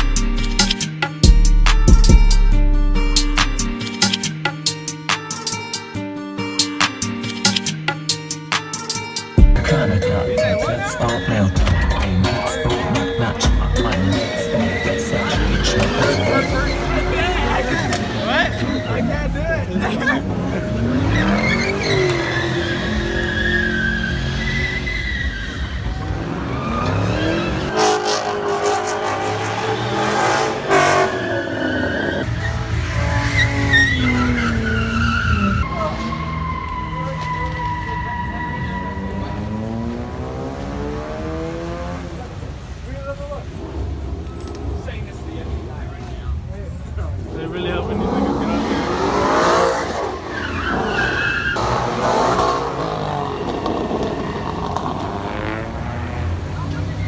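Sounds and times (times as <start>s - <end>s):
tyres skidding: 3.4s - 57.0s
car engines revving: 9.6s - 57.0s
tires squealing: 9.7s - 57.0s.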